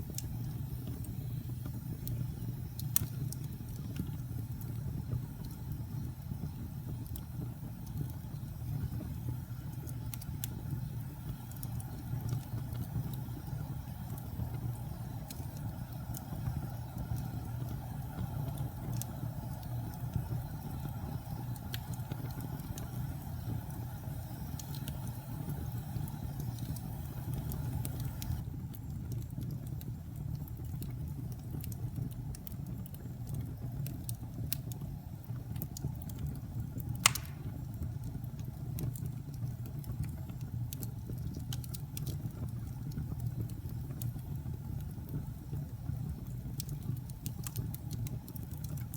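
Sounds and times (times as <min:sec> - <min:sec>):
fire crackling and popping: 0:00.0 - 0:48.9
fireplace flames rumbling: 0:00.0 - 0:48.9.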